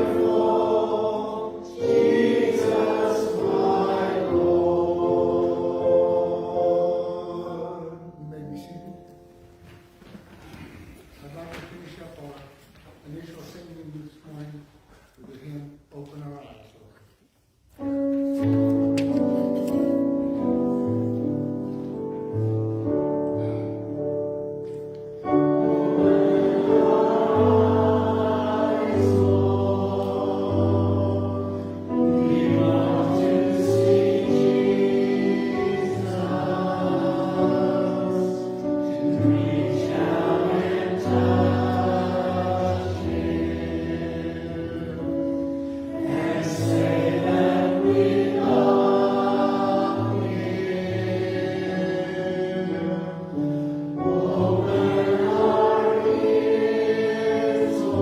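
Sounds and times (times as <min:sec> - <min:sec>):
choir singing a hymn: 0:00.0 - 0:09.5, 0:17.8 - 0:58.0
organ chords: 0:00.0 - 0:09.8, 0:17.8 - 0:58.0.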